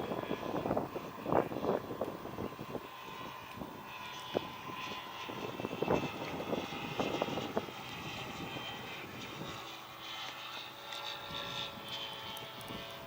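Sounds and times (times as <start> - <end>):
model airplane motor drone: 0.0 - 13.0
wind buffeting microphone: 0.0 - 13.0.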